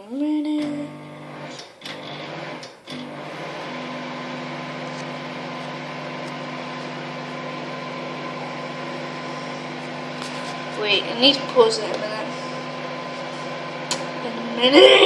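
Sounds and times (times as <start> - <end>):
microwave oven humming: 0.3 - 15.0.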